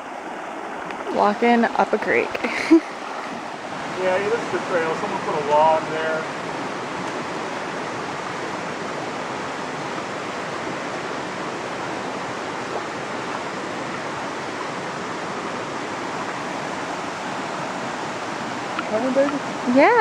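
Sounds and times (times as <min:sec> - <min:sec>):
creek water rushing over rocks: 0:00.0 - 0:20.0.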